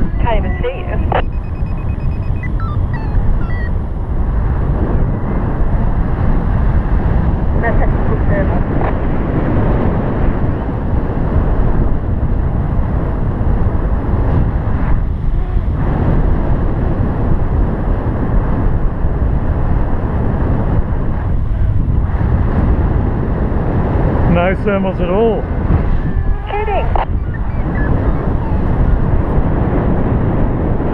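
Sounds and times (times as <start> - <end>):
wind noise on microphone: 0.0 - 30.9.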